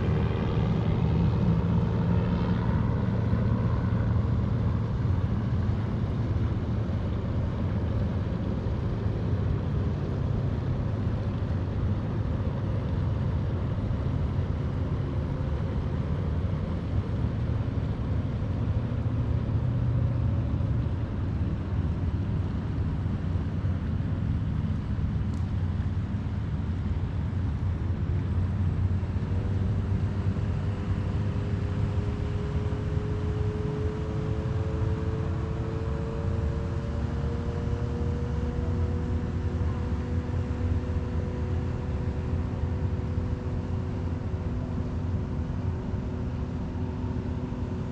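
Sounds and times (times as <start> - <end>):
distant engines rumbling: 0.0 - 47.9.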